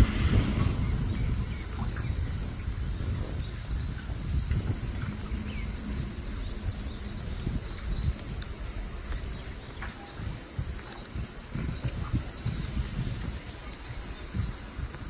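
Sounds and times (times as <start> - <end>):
insect chorus: 0.0 - 15.0
wind rumble: 0.0 - 15.0.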